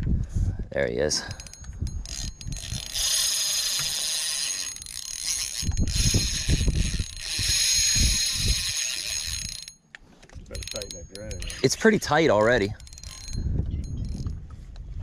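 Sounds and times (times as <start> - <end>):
fishing reel drag buzzing: 1.3 - 9.8, 10.5 - 14.3.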